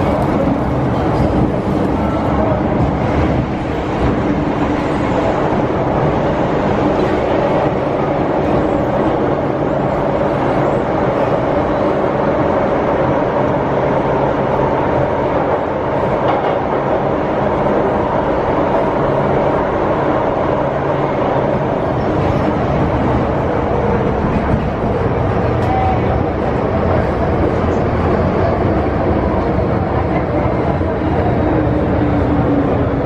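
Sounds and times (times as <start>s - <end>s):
underground train rumbling: 0.0s - 33.0s.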